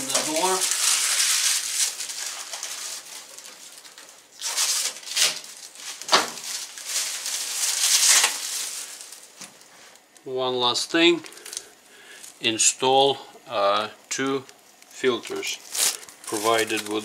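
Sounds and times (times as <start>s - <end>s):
plastic wrap rustling and crinkling: 0.0s - 10.3s, 11.1s - 13.1s, 13.8s - 17.0s.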